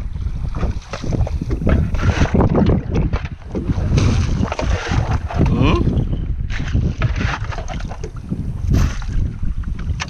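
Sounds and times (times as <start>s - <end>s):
wind buffeting microphone: 0.0s - 10.0s
water slapping against boat hull: 0.3s - 10.0s.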